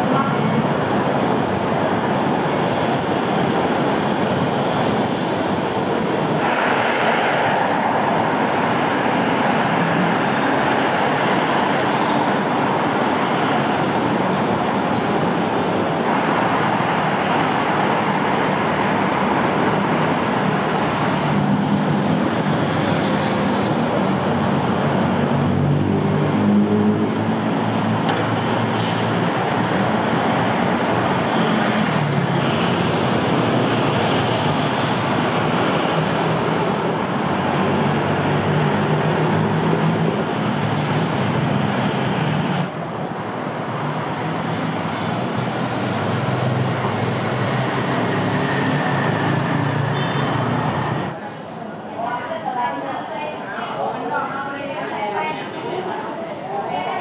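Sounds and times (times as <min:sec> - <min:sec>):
vehicle engines passing: 0:00.0 - 0:52.3
city street traffic noise: 0:00.0 - 0:57.0.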